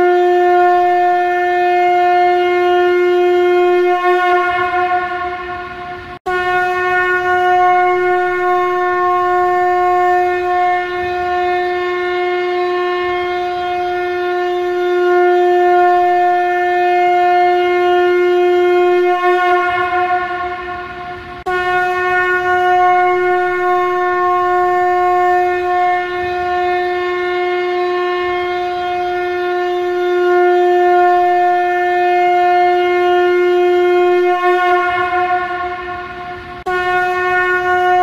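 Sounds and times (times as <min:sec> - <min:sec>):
conch shell blowing: 0:00.0 - 0:38.0.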